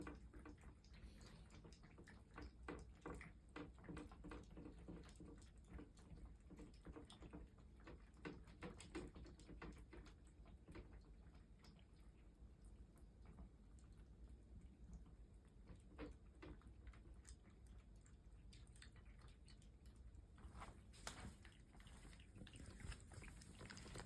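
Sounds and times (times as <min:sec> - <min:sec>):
cats chewing food: 0:00.0 - 0:24.0.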